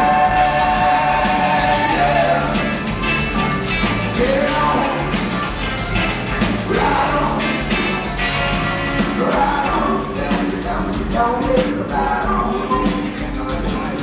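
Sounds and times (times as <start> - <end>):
drum kit: 0.0 - 14.0
electric guitars: 0.0 - 14.0
keyboards: 0.0 - 14.0.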